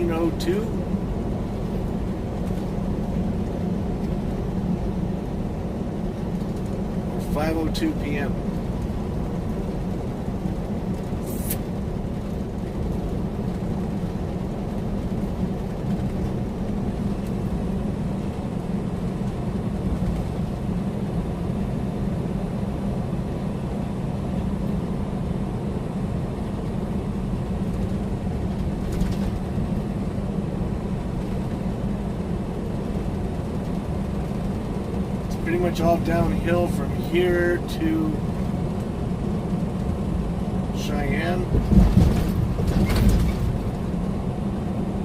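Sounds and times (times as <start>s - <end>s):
truck engine and road noise: 0.0s - 45.0s.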